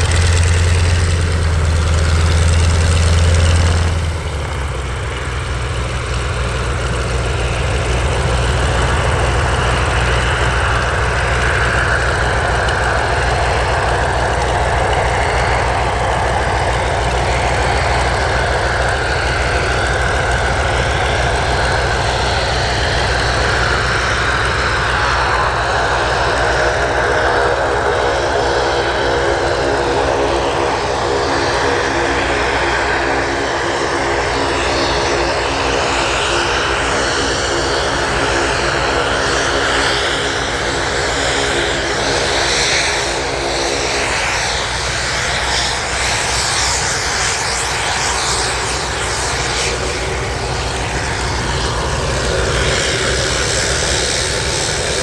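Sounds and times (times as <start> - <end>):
radial aircraft engine and propeller: 0.0 - 55.0.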